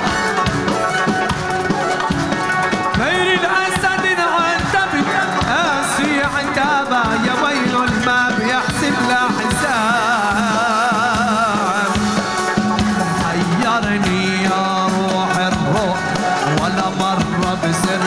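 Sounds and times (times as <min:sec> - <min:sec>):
drum beats: 0:00.0 - 0:18.0.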